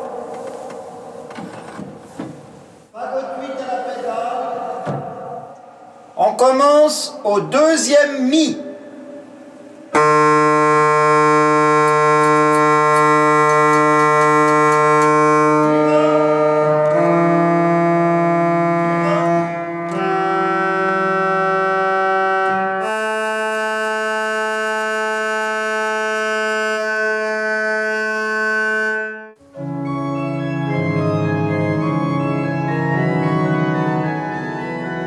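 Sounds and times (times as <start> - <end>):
pipe organ chords: 3.2 - 35.0.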